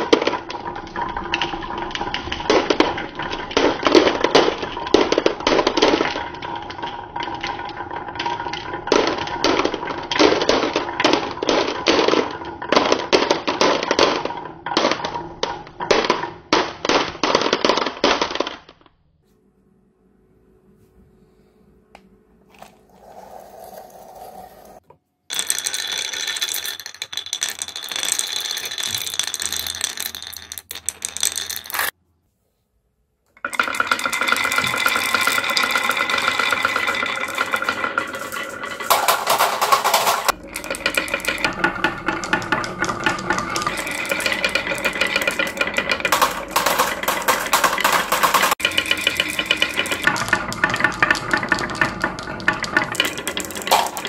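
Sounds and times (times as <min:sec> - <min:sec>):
marbles clattering on wooden tracks: 0:00.0 - 0:18.9, 0:22.5 - 0:32.0, 0:33.4 - 0:54.0.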